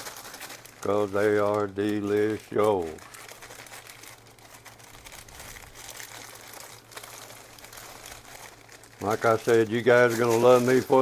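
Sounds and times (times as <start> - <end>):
faint low hum: 0.0 - 11.0
plastic packaging crinkling: 0.0 - 11.0.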